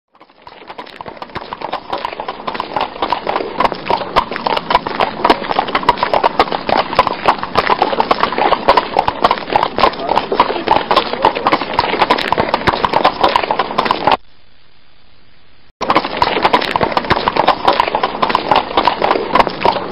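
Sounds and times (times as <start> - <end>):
hooves clip-clopping: 0.1 - 14.2, 15.8 - 19.9.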